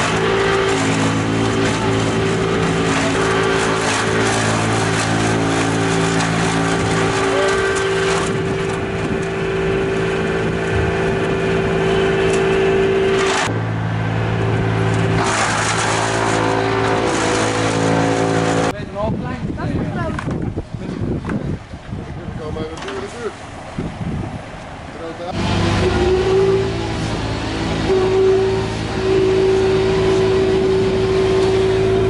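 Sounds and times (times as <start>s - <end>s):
tractor engine hum: 0.0s - 18.8s, 23.0s - 32.0s
wood chipper shredding trees: 0.0s - 18.8s, 24.3s - 32.0s.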